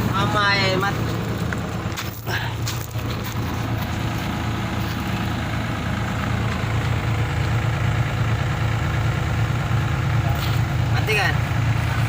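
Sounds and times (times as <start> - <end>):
excavator diesel engine idling: 0.0 - 12.0.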